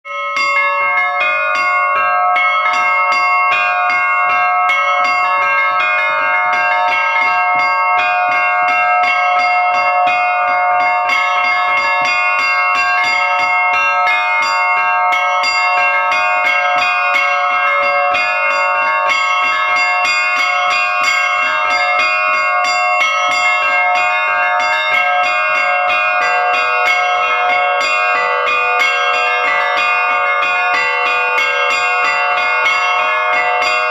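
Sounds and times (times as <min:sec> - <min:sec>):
small bells ringing: 0:00.1 - 0:33.9.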